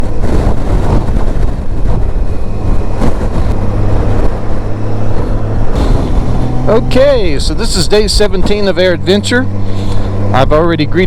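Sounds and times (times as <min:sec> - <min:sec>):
motorcycle engine running: 0:00.0 - 0:11.0
wind buffeting on microphone: 0:00.0 - 0:11.0.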